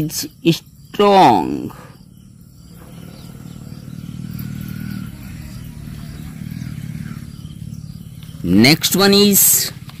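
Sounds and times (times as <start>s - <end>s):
vehicle engine running: 1.7s - 10.0s.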